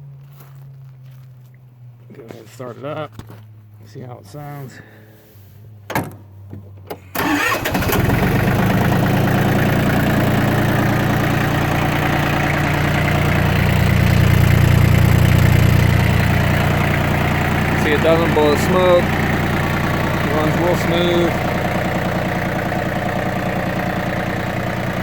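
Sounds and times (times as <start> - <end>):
diesel engine starting and idling: 4.7 - 25.0.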